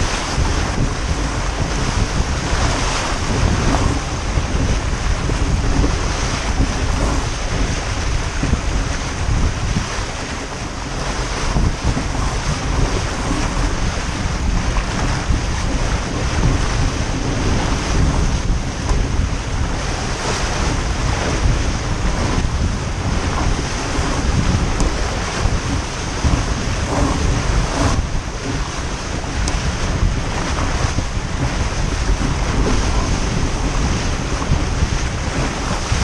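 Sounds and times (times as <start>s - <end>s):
water rushing along boat hull: 0.0s - 36.0s
wind buffeting microphone: 0.0s - 36.0s.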